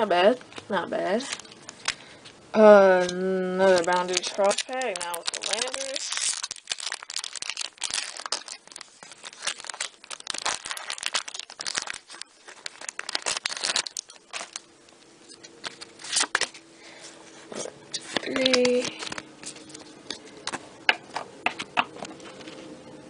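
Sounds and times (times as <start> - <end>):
foil wrapper crinkling and tearing: 1.2 - 2.2, 2.9 - 20.6.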